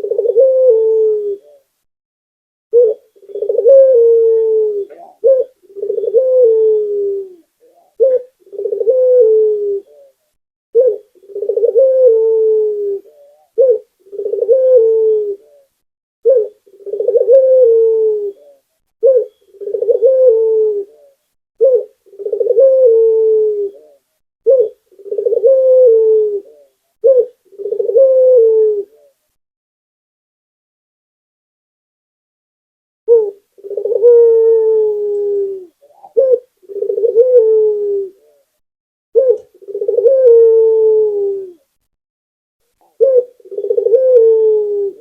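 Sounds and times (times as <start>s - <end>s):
dove cooing: 0.0s - 1.7s, 2.7s - 29.2s, 33.1s - 38.6s, 39.2s - 41.7s, 42.8s - 45.0s.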